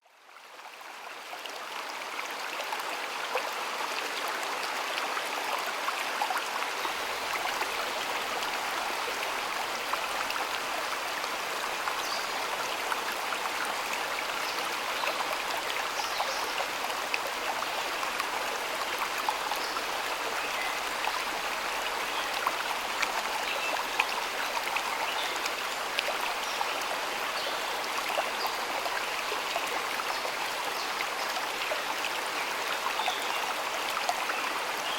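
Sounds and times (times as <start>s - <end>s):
stream water flowing and splashing: 0.0s - 34.9s.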